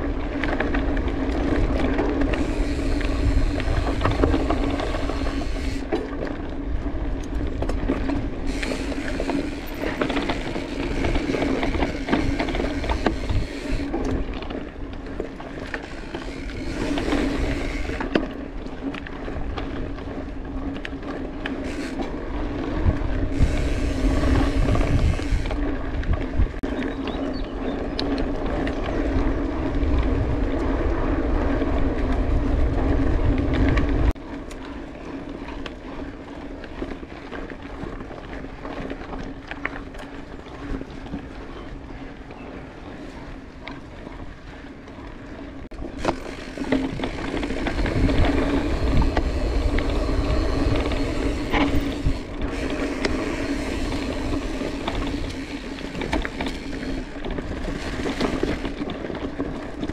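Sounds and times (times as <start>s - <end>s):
bike rattling and clicking: 0.0s - 59.9s
bike tyres rolling on trail: 0.0s - 59.9s.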